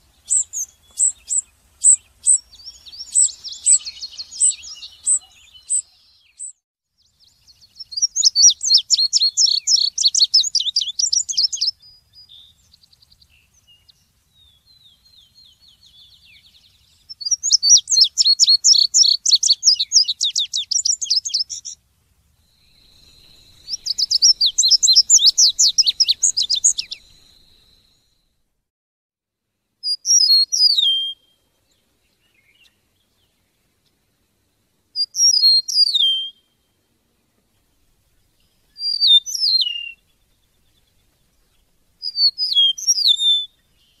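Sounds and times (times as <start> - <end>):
soft bird twittering: 0.0 - 21.8, 22.4 - 28.4, 29.8 - 44.0
songbird trilled song: 0.0 - 21.8, 22.4 - 28.4, 29.8 - 44.0.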